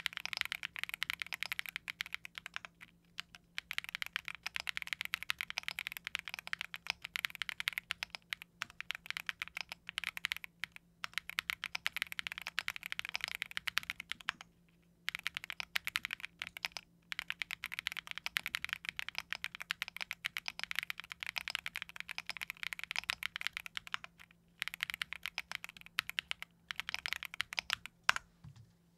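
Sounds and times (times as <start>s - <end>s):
mechanical keyboard typing: 0.0s - 14.5s, 15.1s - 28.2s.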